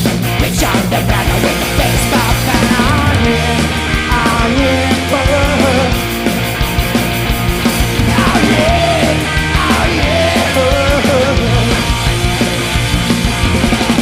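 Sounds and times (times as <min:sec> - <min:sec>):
punk rock song: 0:00.0 - 0:14.0.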